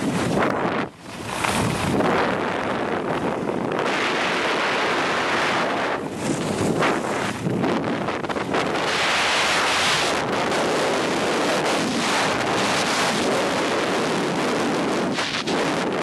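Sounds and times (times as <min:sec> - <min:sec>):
skis carving on hard snow: 0:00.0 - 0:16.0
wind rushing over microphone: 0:00.0 - 0:16.0.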